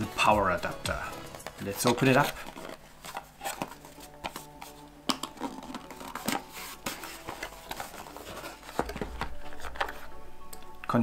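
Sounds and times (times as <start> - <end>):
cardboard box being opened: 1.2 - 10.1.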